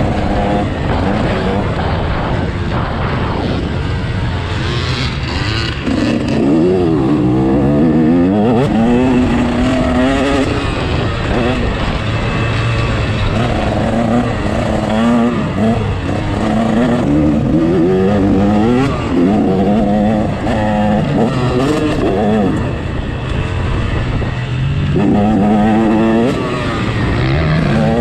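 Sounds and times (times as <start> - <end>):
motocross bike engine revving: 0.0 - 28.0.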